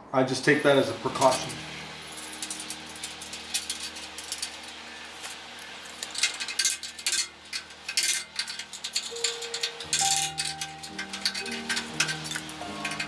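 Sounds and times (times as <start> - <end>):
metal clicks and clinks: 1.2 - 13.0.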